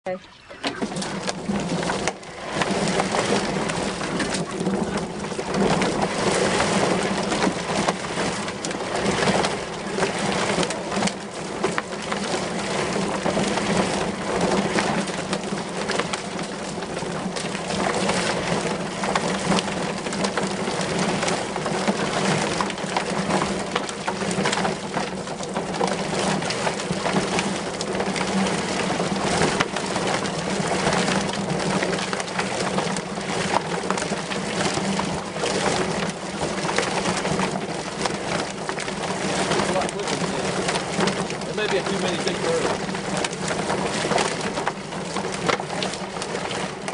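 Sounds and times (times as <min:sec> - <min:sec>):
motor hum: 0:00.0 - 0:46.9.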